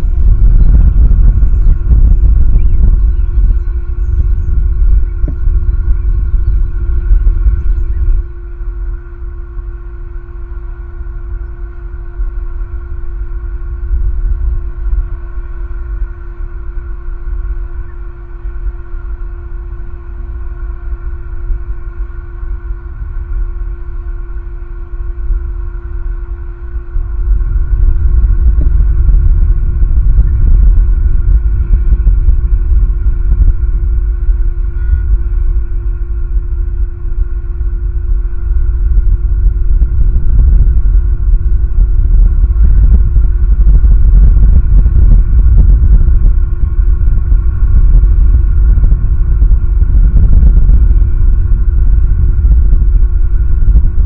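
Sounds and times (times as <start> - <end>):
faint steady whine: 0.0 - 54.0
wind buffeting microphone: 0.0 - 54.0.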